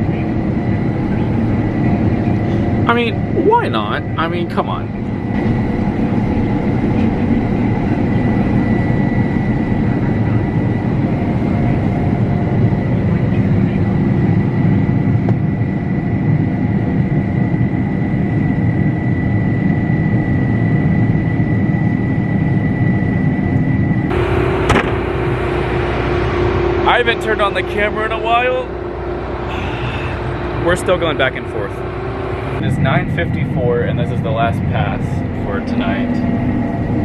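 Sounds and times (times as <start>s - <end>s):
combine harvester drone: 0.0s - 37.0s
high whine: 0.0s - 37.0s.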